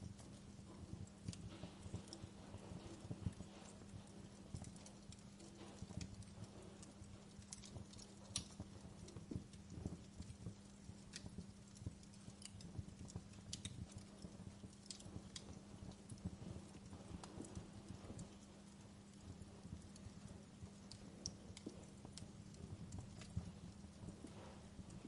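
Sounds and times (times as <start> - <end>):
low steady hum: 0.0 - 25.0
wood fire crackling: 0.0 - 25.0.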